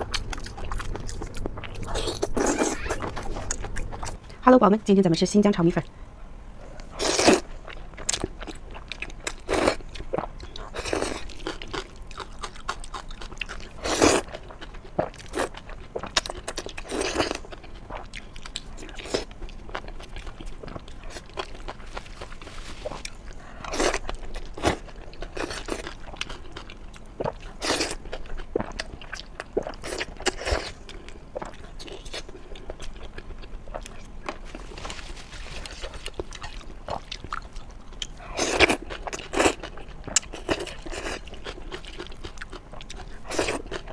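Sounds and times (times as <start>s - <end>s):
person chewing noodles: 0.0s - 4.3s, 6.8s - 43.9s.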